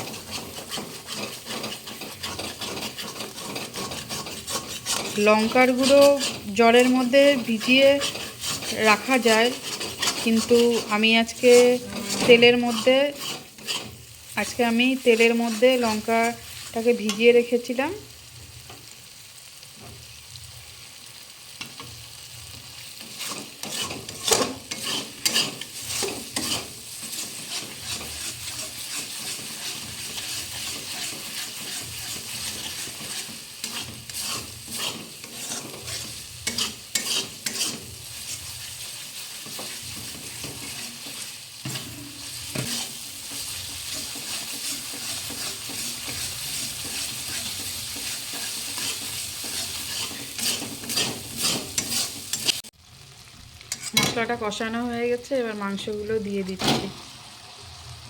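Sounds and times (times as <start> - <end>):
spatula scraping a pan: 0.0 - 17.7, 21.5 - 52.7, 53.6 - 54.2
paste sizzling in oil: 0.0 - 58.0.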